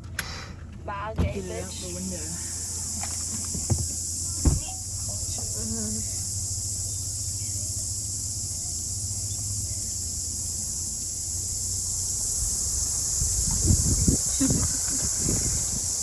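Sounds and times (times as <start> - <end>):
car engine and road rumble: 0.0 - 16.0
steady high hiss: 1.3 - 16.0.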